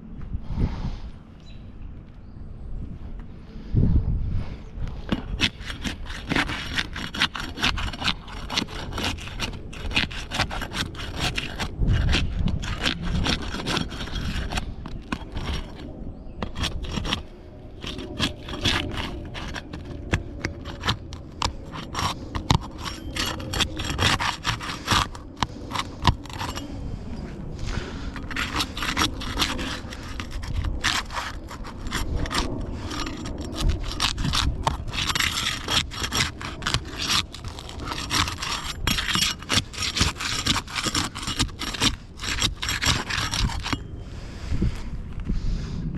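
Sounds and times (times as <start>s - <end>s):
hand tool scraping wood: 4.9s - 43.9s.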